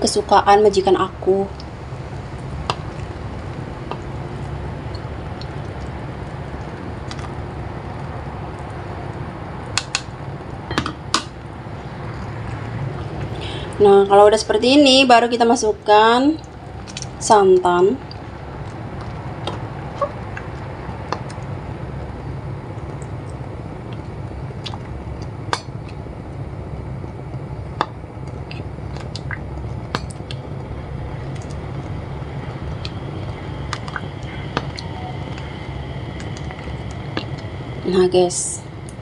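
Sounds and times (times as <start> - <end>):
low rumble: 0.0 - 39.0
pot simmering: 0.0 - 39.0.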